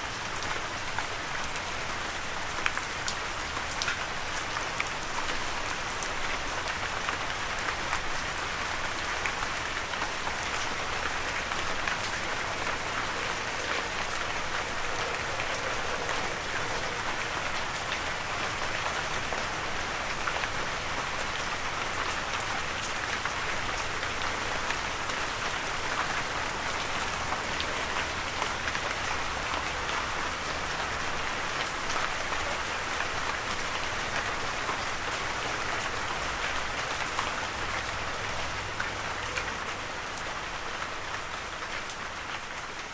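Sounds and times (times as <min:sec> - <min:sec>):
rain pattering on a surface: 0:00.0 - 0:42.9.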